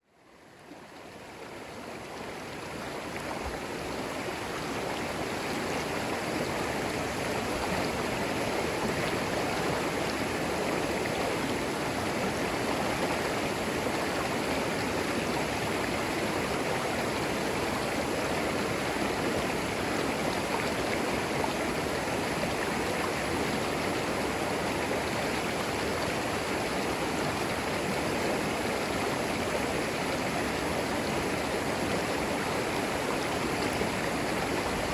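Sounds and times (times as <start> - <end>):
creek water flowing over stones: 0.2 - 34.9.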